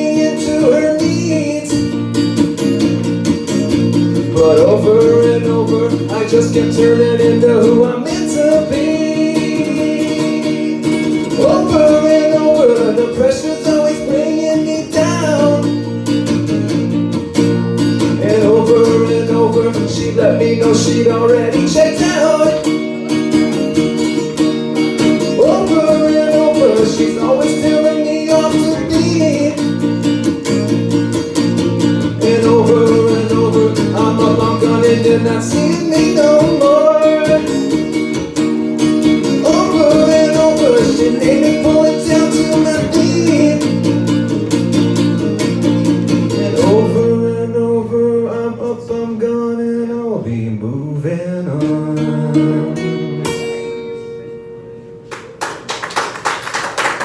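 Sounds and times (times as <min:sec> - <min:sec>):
acoustic guitar playing chords: 0:00.0 - 0:57.0.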